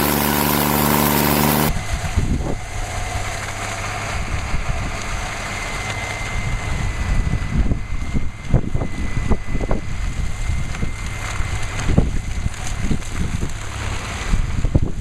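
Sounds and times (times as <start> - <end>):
heavy machine engine drone: 0.0 - 15.0
low engine rumble: 0.0 - 15.0.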